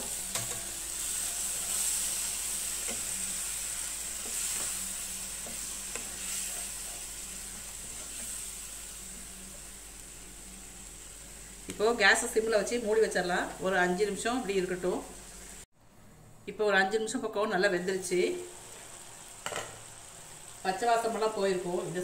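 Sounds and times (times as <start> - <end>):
gravy sizzling in a pan: 0.0 - 15.7, 17.5 - 22.0.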